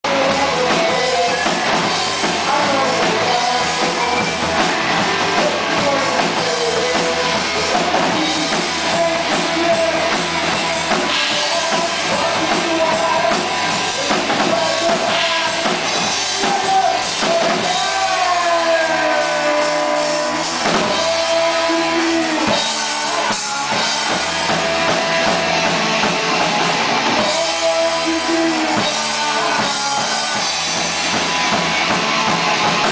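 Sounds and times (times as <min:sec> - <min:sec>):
rock band playing: 0:00.0 - 0:32.9.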